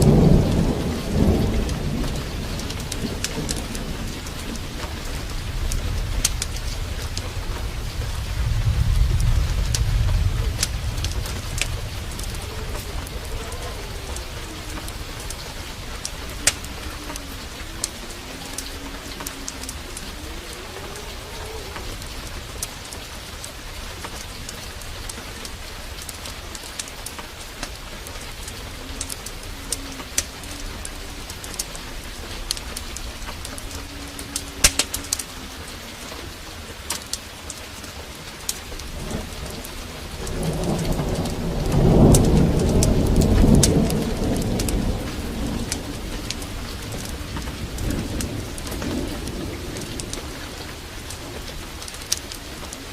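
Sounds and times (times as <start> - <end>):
heavy rain: 0.0 - 52.9
thunder rumble: 0.0 - 52.9
wood fire crackling: 0.0 - 52.9.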